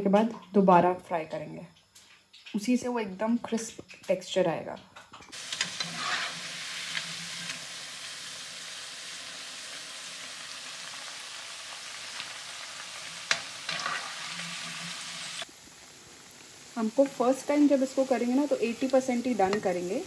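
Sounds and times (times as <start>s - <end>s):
batter deep-frying in hot oil: 1.9s - 4.4s, 5.0s - 20.0s.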